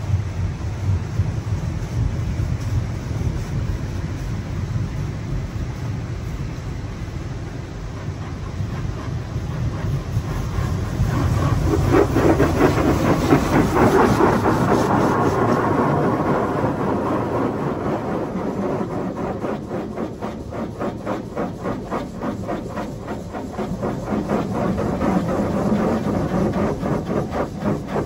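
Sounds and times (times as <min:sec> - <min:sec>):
water jets beating on car: 0:00.0 - 0:28.0.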